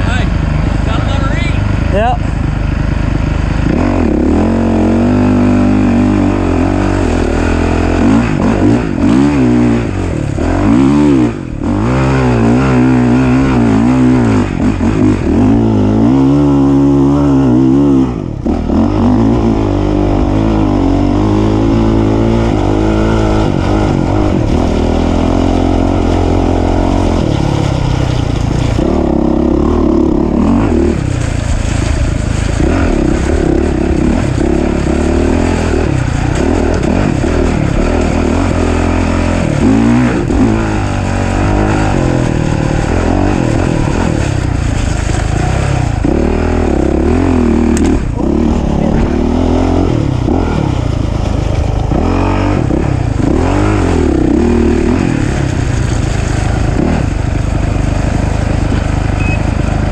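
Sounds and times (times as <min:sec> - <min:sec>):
race vehicle engine revving: 0:00.0 - 0:59.9.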